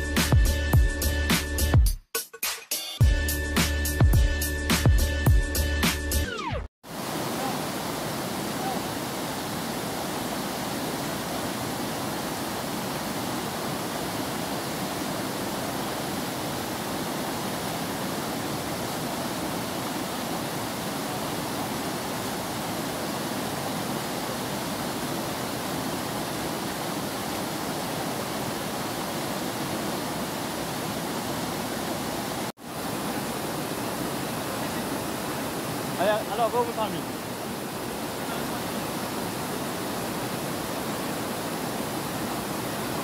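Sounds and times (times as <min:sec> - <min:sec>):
floodwater rushing: 0:06.8 - 0:43.0.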